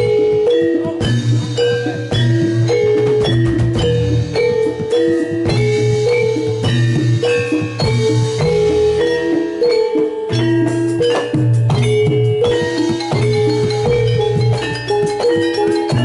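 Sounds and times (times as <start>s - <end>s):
gamelan music through speakers: 0.0s - 16.0s.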